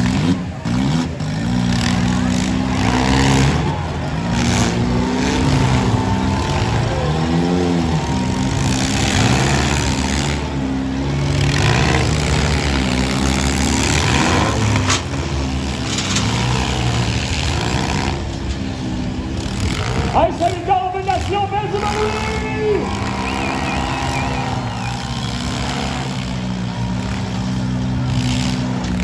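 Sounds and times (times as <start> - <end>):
car engines revving hard: 0.0 - 29.0.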